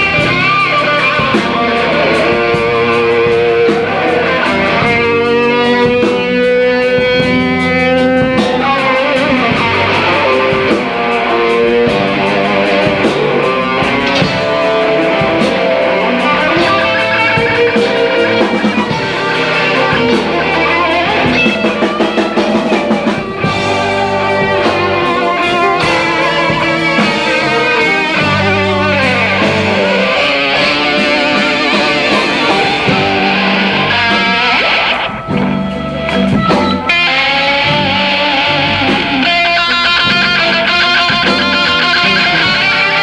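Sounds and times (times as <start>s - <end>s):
bass guitar: 0.0s - 43.0s
drum kit: 0.0s - 43.0s
electric guitar: 0.0s - 43.0s.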